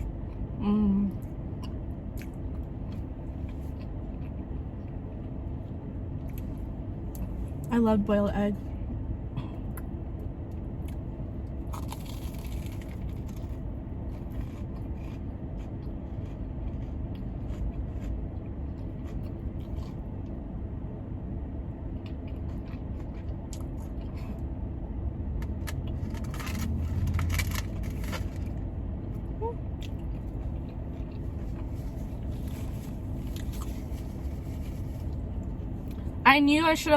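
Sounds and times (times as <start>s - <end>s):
chewing and crunching food: 0.0s - 7.7s, 10.5s - 20.4s, 21.9s - 24.6s, 25.4s - 36.2s
car air conditioning hum: 0.0s - 36.9s.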